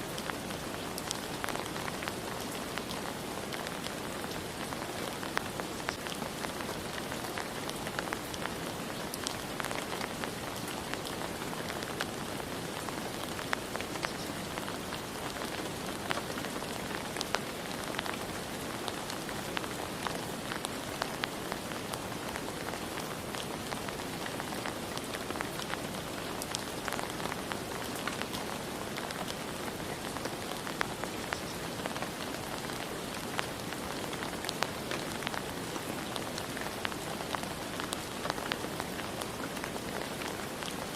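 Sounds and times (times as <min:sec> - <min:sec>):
raindrops ticking on a surface: 0:00.0 - 0:40.9
steady rain: 0:00.0 - 0:40.9.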